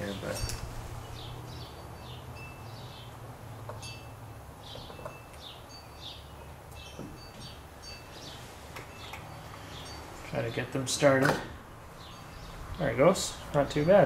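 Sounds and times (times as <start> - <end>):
small birds chirping: 0.0 - 11.2, 11.8 - 14.0.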